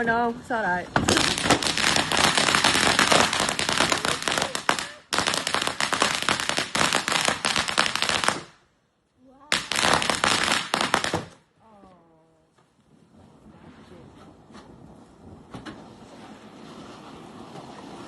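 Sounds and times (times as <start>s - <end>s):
fireworks crackling: 0.8s - 8.8s, 9.4s - 11.5s, 12.7s - 18.0s.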